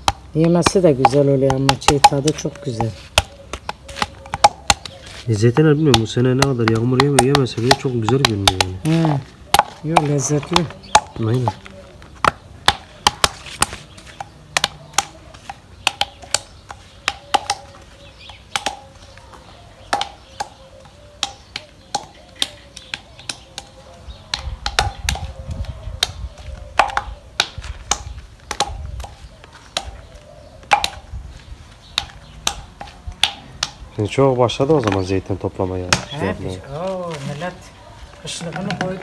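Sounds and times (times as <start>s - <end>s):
sharp knocks cracking olives: 0.0s - 37.6s, 38.2s - 39.0s.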